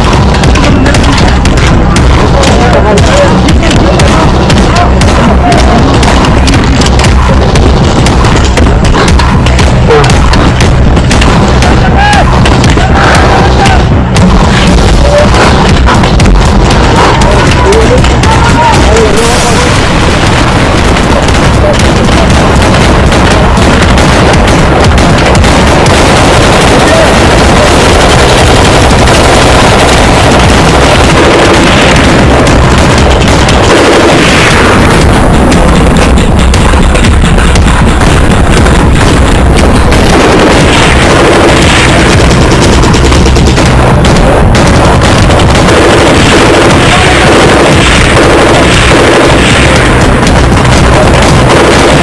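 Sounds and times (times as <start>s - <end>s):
distorted booming music: 0.0s - 52.0s.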